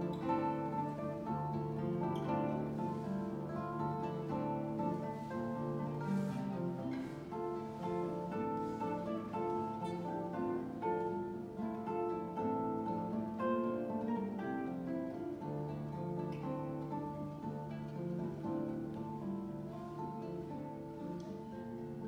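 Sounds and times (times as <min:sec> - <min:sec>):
classical guitar duet: 0:00.0 - 0:22.0.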